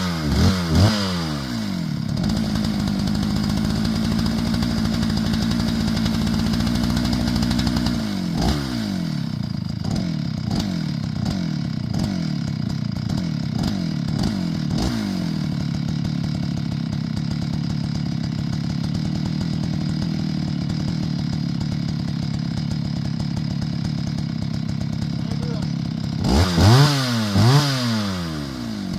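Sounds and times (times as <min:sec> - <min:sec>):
chainsaw engine revving: 0:00.0 - 0:28.9.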